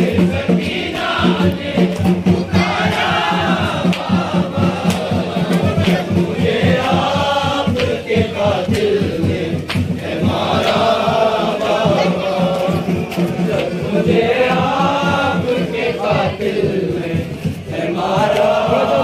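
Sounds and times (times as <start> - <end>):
low thumping beat: 0.0 - 19.0
men chanting in unison: 0.0 - 19.0.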